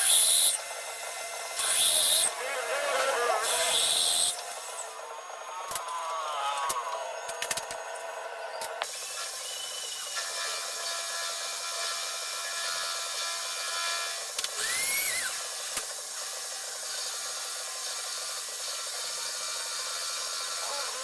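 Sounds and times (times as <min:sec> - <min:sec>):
power tool running: 0:00.0 - 0:21.0.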